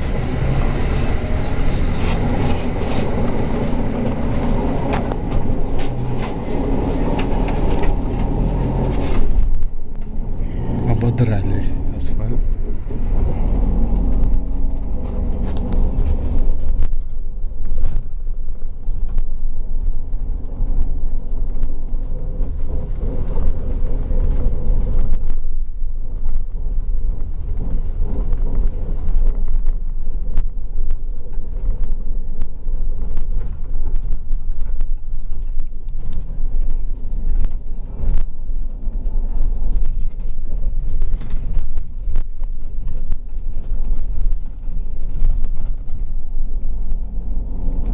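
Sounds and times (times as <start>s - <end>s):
bus engine and tyres rumbling: 0.0s - 47.9s.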